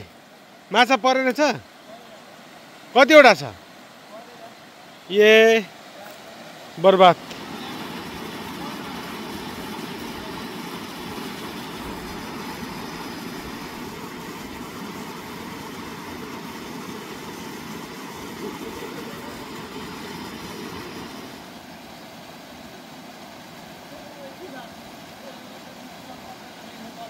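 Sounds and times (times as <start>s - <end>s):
stream rushing over rocks: 0.0s - 27.0s.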